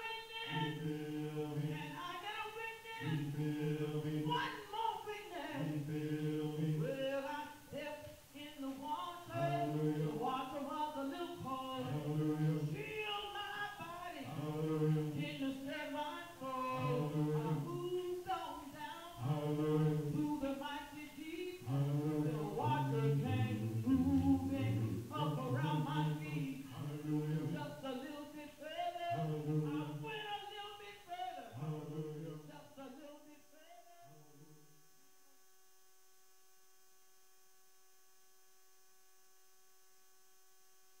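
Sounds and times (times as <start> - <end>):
a cappella hymn singing: 0.0 - 34.7
faint electrical hum: 0.0 - 41.0.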